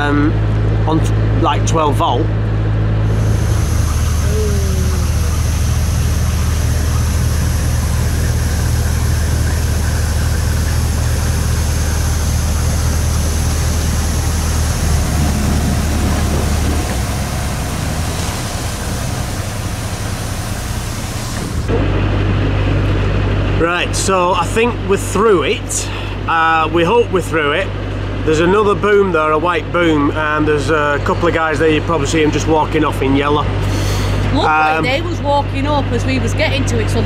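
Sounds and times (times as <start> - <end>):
boat diesel engine running: 0.0 - 37.0.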